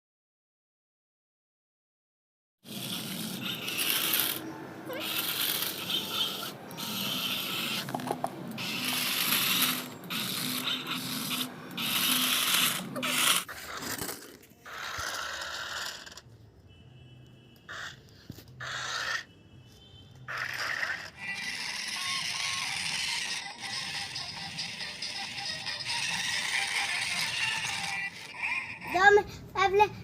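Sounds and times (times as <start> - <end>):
toy robot car ratcheting: 2.7 - 16.3, 17.7 - 19.3, 20.2 - 29.2.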